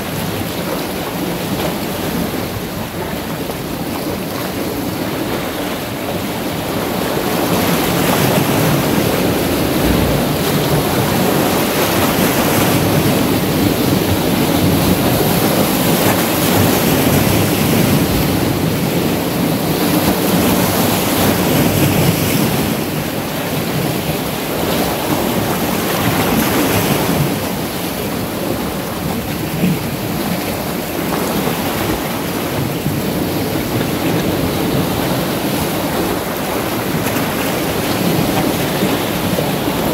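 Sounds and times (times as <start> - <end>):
waves breaking on boulders: 0.0 - 39.9.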